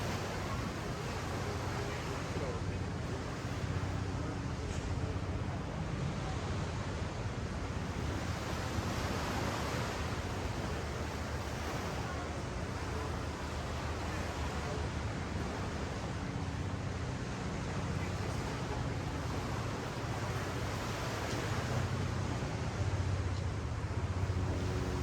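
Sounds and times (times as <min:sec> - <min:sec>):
ocean surf on sand beach: 0:00.0 - 0:25.0.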